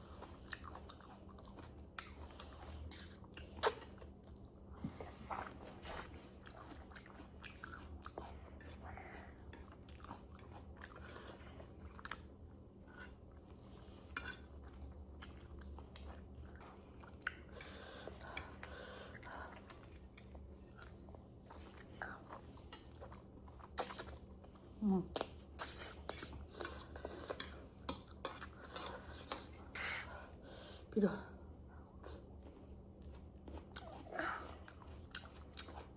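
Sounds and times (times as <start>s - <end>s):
chewing food: 0.0s - 29.9s, 31.7s - 35.9s.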